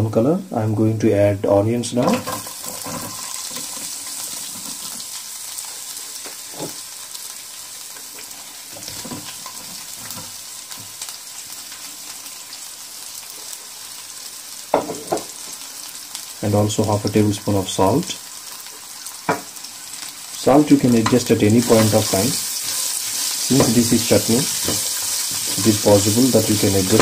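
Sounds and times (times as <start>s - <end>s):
onions sizzling in hot oil: 1.7s - 27.0s.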